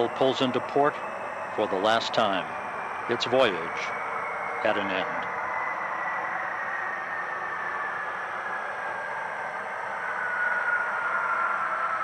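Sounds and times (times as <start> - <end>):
high whine falling in pitch: 0.0 - 12.0.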